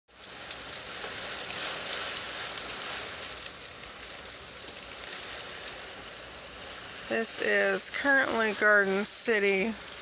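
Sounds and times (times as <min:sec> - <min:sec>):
heavy rain hissing: 0:00.1 - 0:10.0.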